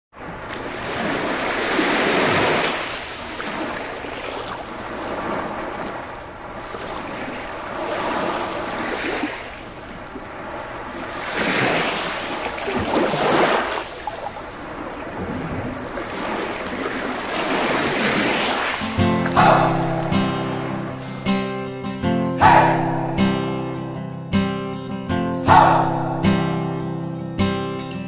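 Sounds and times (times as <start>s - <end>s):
waves breaking on shore: 0.2s - 23.2s.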